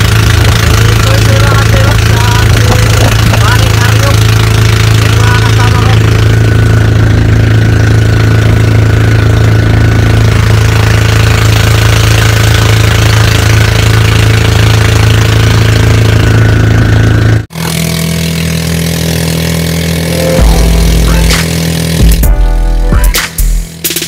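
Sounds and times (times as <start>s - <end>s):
boat engine running: 0.0s - 24.0s
high engine drone: 0.0s - 24.0s.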